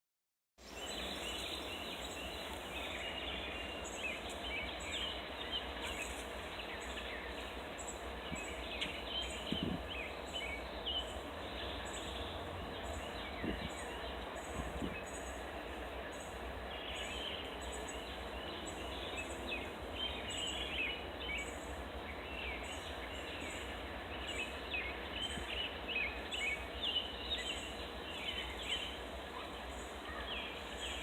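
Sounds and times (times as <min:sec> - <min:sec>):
birds calling and chirping: 0:00.6 - 0:31.0
low background rumble: 0:00.6 - 0:31.0.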